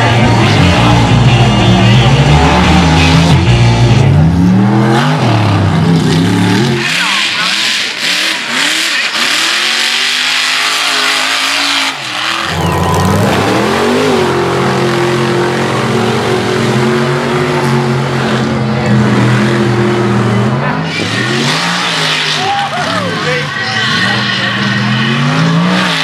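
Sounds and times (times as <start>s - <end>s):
second truck engine at high revs: 0.0s - 26.0s
truck engine revving: 0.0s - 26.0s.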